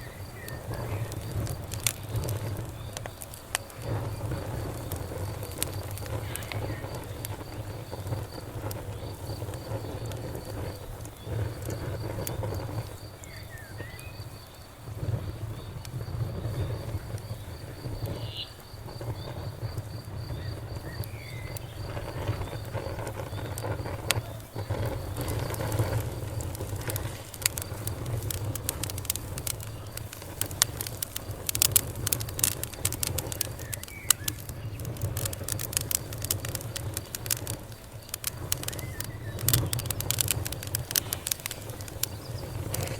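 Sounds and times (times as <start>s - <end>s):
campfire crackling and popping: 0.0s - 42.9s
low rumble of flames: 0.0s - 42.9s.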